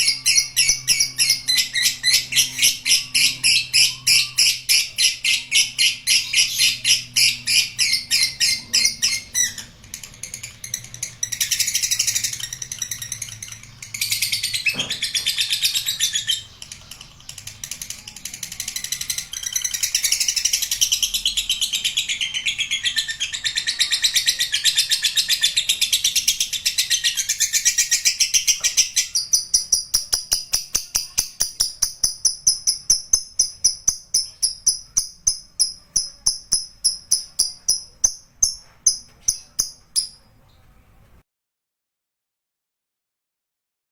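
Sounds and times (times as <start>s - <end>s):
lovebird shrill chattering song: 0.0s - 40.2s.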